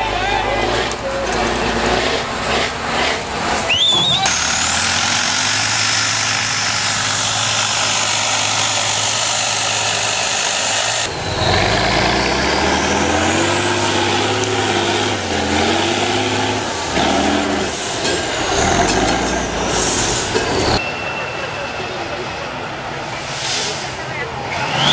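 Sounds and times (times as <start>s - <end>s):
diesel truck engine revving: 0.0s - 20.8s, 22.6s - 24.9s.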